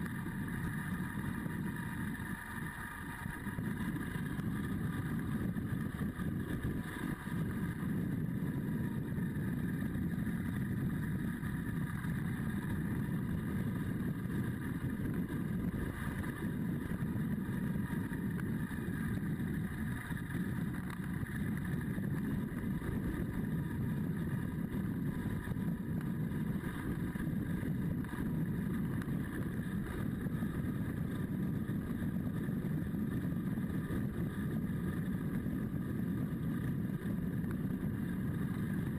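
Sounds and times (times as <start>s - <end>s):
motorcycle engine cruising: 0.0s - 38.9s
road rumble: 0.0s - 38.9s
wind: 0.0s - 38.9s.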